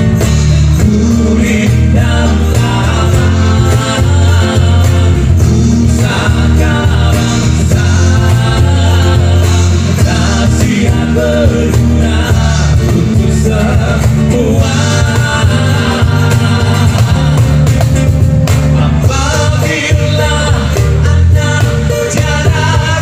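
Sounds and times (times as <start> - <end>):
acoustic guitar: 0.0 - 23.0
cajon: 0.0 - 23.0
electric bass: 0.0 - 23.0
men singing: 0.0 - 23.0.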